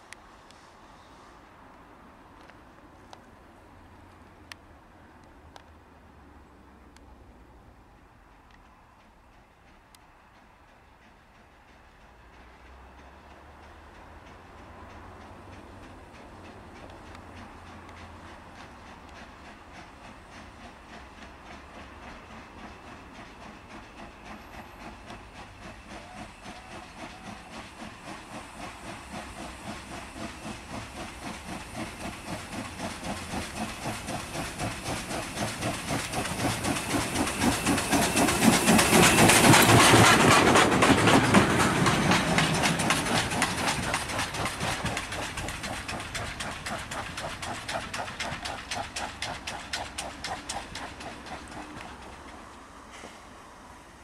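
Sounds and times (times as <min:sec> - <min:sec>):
steam locomotive exhaust chuffs: 0:08.1 - 0:54.0
hissing steam: 0:10.3 - 0:54.0.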